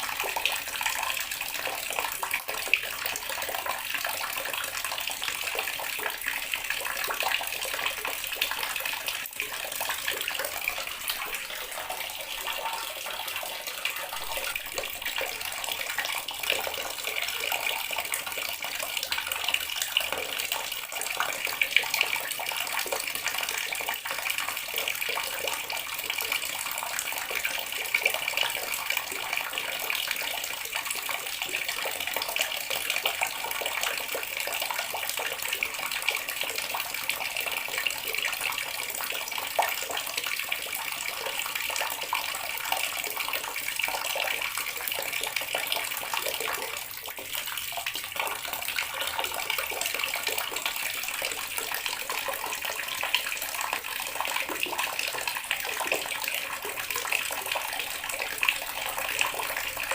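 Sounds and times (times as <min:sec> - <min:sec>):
tap water running and splashing: 0:00.0 - 0:59.9.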